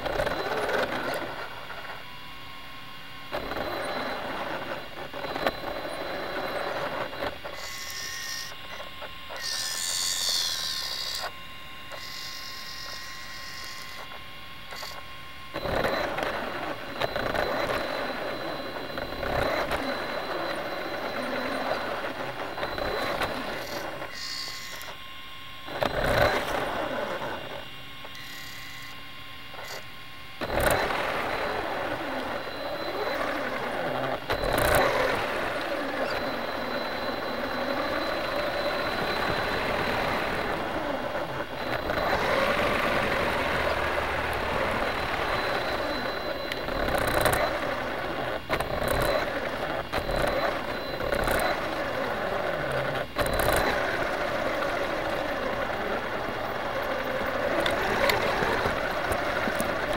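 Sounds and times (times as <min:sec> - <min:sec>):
toy car motor whine: 0:00.0 - 0:02.0, 0:03.3 - 0:59.9.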